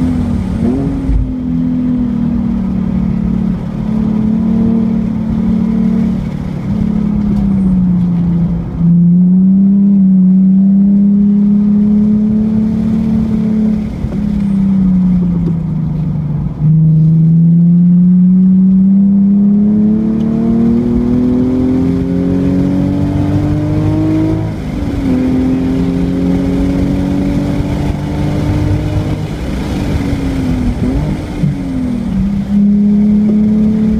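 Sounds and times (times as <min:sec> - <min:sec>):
car engine at full throttle: 0:00.0 - 0:33.9.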